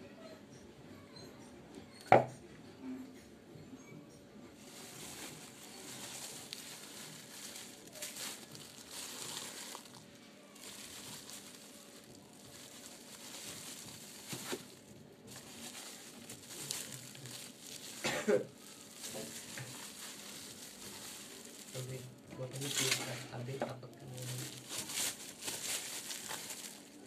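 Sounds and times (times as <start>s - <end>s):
plastic wrapping crinkling: 4.6s - 27.0s.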